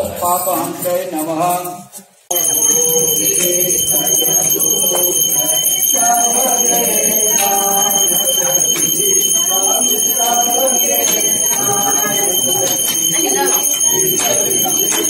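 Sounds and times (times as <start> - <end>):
voices: 0.0 - 15.0
bell ringing: 2.3 - 15.0.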